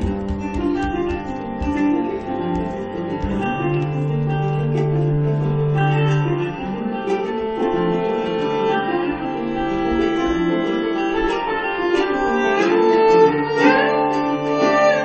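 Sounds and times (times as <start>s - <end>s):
plucked banjo: 0.0s - 15.0s.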